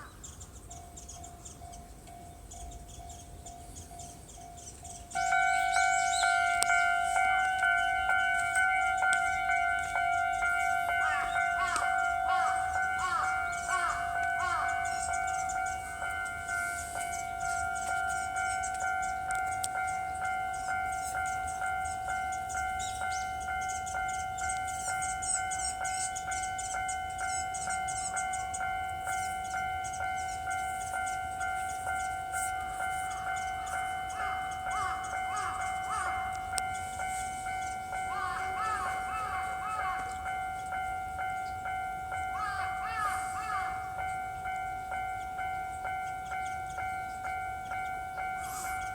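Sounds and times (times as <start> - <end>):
level-crossing warning bell: 0.0 - 48.9.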